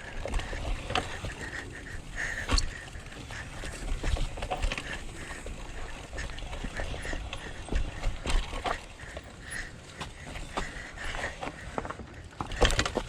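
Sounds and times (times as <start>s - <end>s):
bike rattling: 0.0s - 13.0s
clicks and knocks from tyres: 0.1s - 13.0s.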